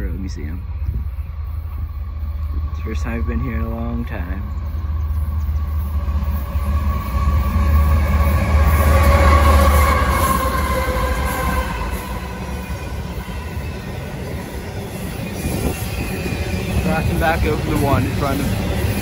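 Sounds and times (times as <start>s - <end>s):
diesel locomotive rumble and whine: 0.0s - 19.0s
freight cars rolling on rails: 0.0s - 19.0s.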